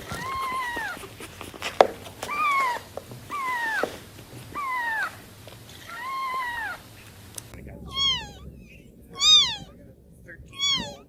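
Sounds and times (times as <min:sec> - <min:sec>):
kittens meowing: 0:00.0 - 0:11.0.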